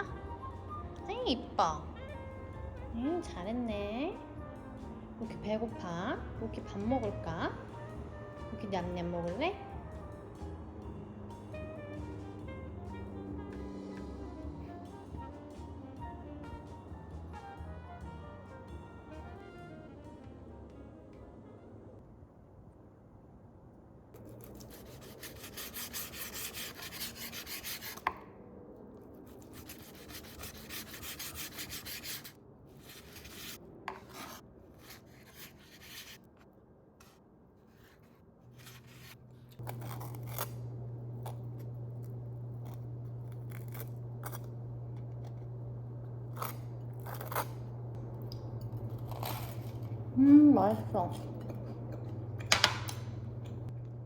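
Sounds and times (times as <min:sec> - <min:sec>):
low appliance hum: 0:00.0 - 0:54.0.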